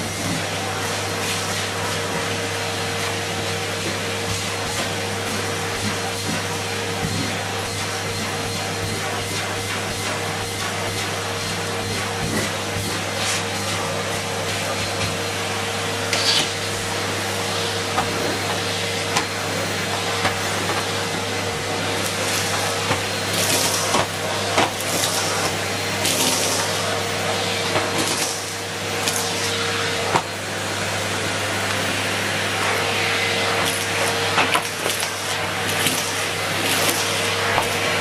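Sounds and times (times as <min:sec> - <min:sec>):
vacuum cleaner running: 0:00.0 - 0:38.0.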